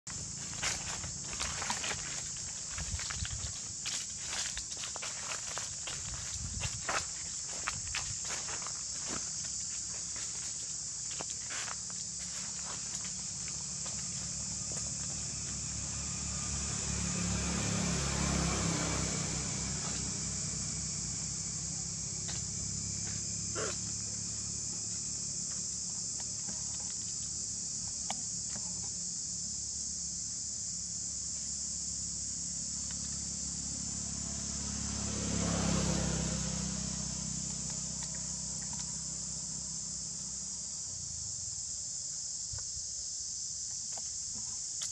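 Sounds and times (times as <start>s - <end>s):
insects droning: 0.1s - 44.9s.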